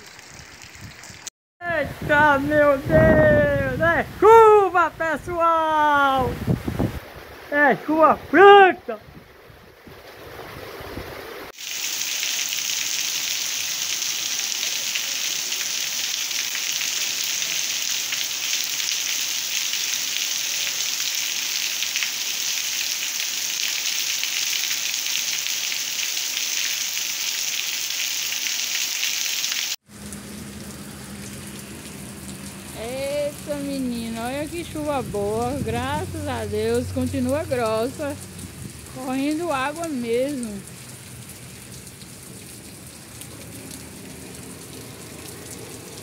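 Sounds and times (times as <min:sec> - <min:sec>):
heavy rain on a street: 0:00.0 - 0:01.3, 0:09.2 - 0:46.0.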